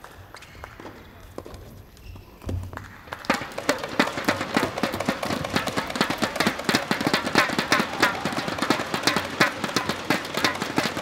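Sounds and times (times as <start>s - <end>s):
many hands clapping: 0.0s - 1.8s, 2.6s - 11.0s.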